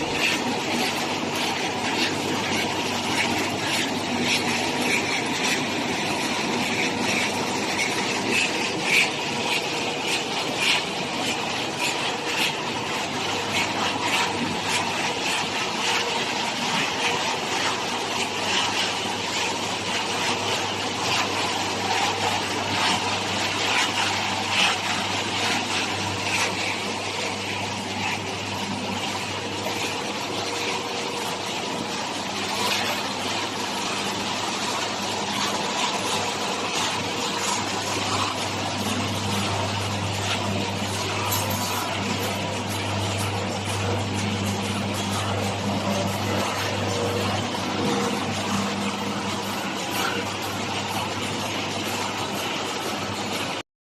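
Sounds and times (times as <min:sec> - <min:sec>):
machinery motor hum: 0:00.0 - 0:53.6.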